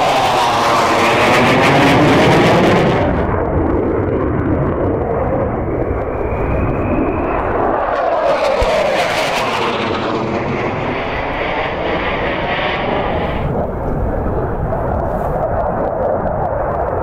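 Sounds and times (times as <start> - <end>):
jet roar passing overhead: 0.0 - 17.0.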